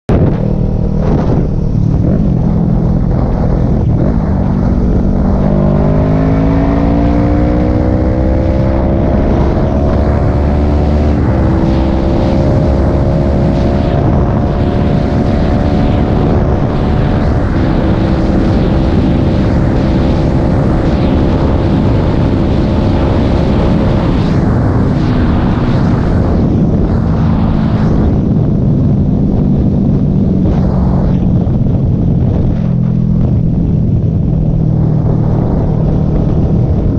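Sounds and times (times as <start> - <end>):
wind and road rush: 0.0 - 36.9
motorcycle engine accelerating: 0.1 - 36.9.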